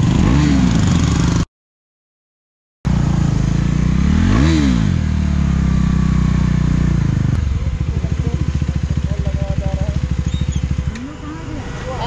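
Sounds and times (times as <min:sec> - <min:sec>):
motorcycle engine idling and blipping: 0:00.0 - 0:01.4, 0:02.9 - 0:12.0.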